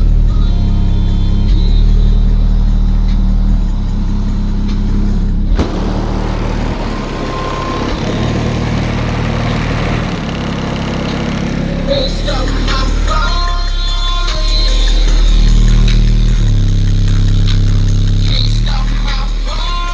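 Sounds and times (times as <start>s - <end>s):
bass-heavy song on car stereo: 0.0s - 19.9s.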